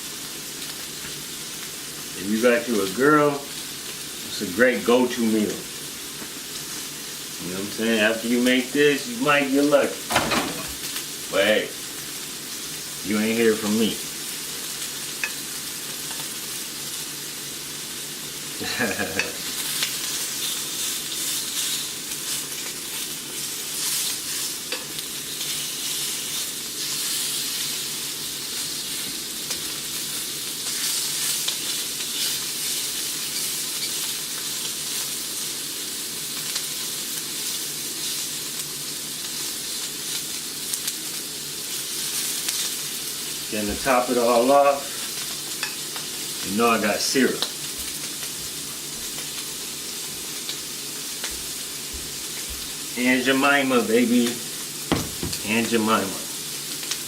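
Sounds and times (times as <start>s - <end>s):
sausage sizzling in a pan: 0.0s - 57.0s.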